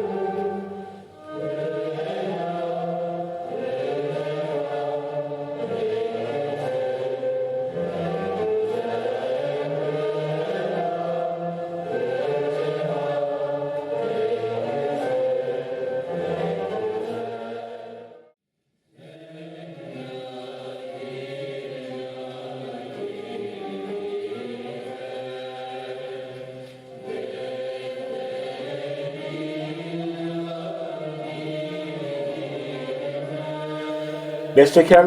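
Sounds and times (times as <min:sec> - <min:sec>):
chorus singing with instruments: 0:00.0 - 0:18.3, 0:19.0 - 0:35.0.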